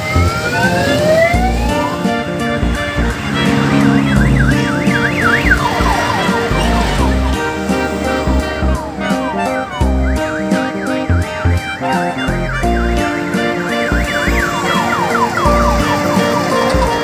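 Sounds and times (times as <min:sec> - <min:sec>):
electronic music with low beat: 0:00.0 - 0:17.0
siren-like sound effects: 0:00.0 - 0:17.0.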